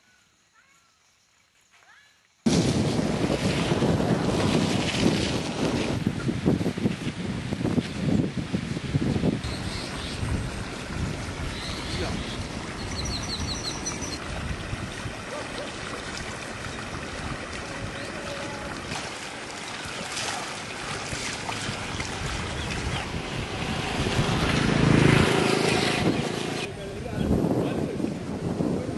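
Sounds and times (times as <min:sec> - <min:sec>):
floodwater rushing: 0:02.5 - 0:28.9
wind on microphone: 0:02.5 - 0:28.9.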